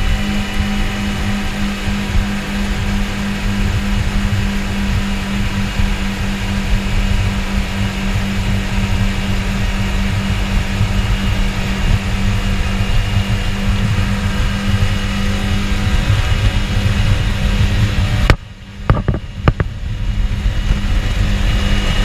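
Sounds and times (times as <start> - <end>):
outboard motors droning: 0.0 - 22.0.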